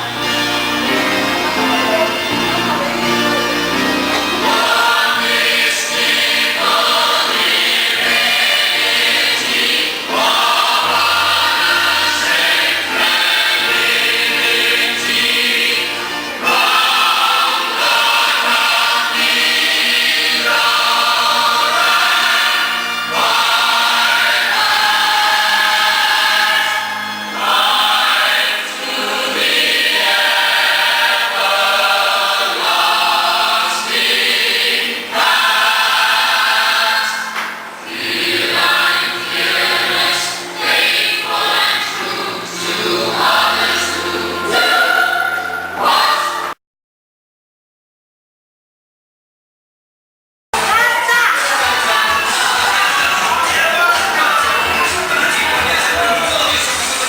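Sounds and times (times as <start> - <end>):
choir singing: 0.0 - 46.6, 50.6 - 57.0.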